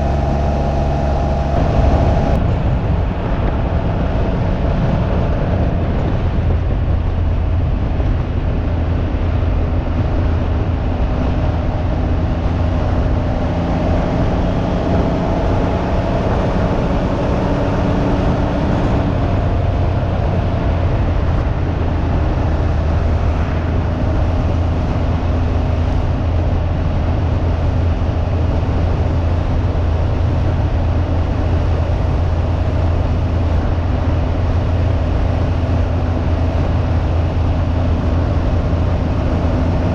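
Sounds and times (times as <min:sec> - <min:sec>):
three-cylinder engine running: 0:00.0 - 0:39.9
wind on microphone: 0:00.0 - 0:39.9.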